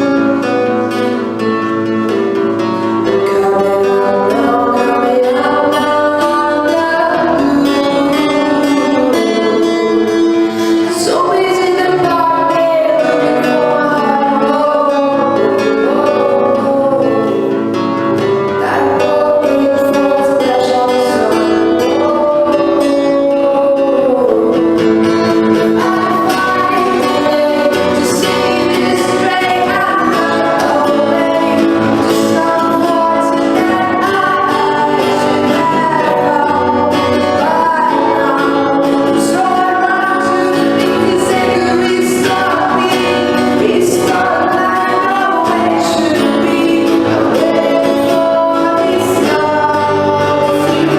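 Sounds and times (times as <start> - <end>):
person singing: 0.0 - 50.9
strummed guitar chords: 0.0 - 50.9.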